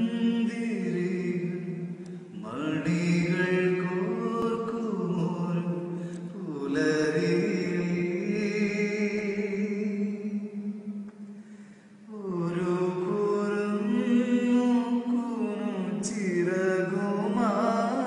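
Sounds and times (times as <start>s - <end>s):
wordless chant-like singing: 0.0s - 11.3s, 12.0s - 18.0s.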